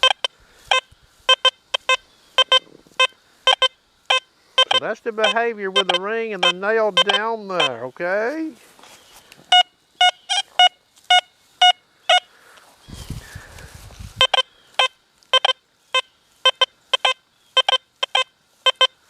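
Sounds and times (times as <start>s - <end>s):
metal detector beeps: 0.0s - 7.9s, 9.5s - 12.3s, 14.2s - 19.0s.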